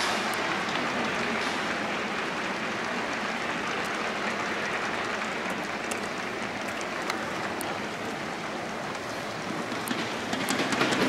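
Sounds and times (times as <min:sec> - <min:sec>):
crowd applause: 0:00.0 - 0:11.0.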